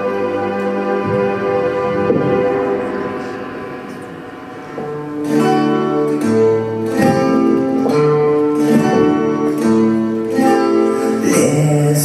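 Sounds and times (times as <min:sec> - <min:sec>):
sustained chords: 0:00.0 - 0:12.0.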